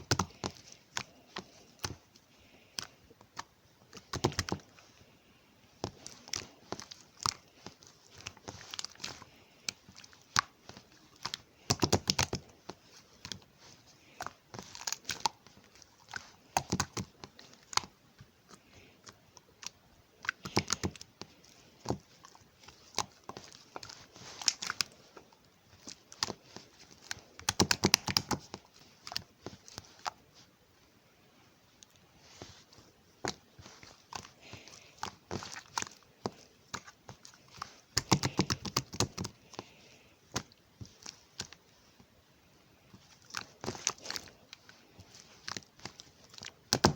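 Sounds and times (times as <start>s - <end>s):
slime squishing: 0.0s - 46.9s.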